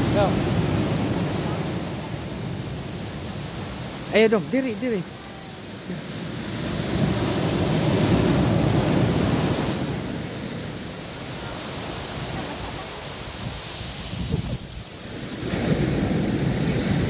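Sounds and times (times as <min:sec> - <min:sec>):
hiss of receding wash: 0:00.0 - 0:17.0
wave breaking on sand: 0:00.0 - 0:17.0.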